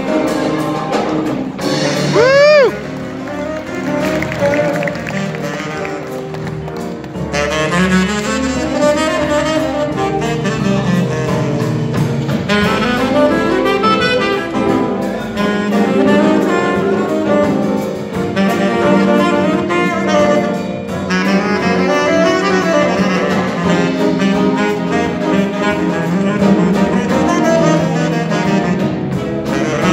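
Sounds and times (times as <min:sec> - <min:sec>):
bass line: 0:00.0 - 0:29.9
latin jazz band playing: 0:00.0 - 0:29.9
saxophones and brass: 0:00.0 - 0:29.9.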